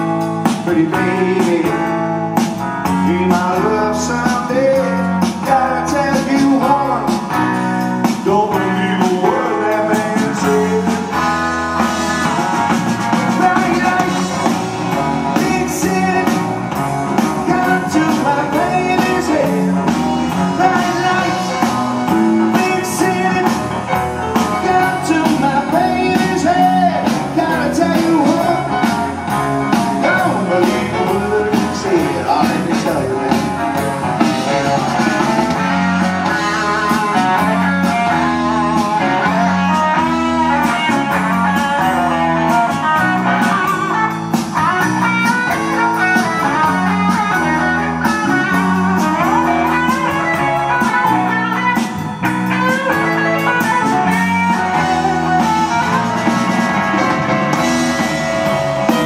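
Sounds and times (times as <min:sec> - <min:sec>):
drums: 0:00.0 - 0:59.0
electric guitar: 0:00.0 - 0:59.0
keyboard: 0:00.0 - 0:59.0.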